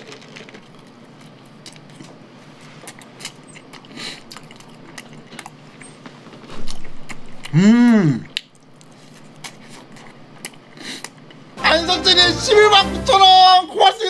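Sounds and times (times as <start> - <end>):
chewing bread: 0.0 - 11.5.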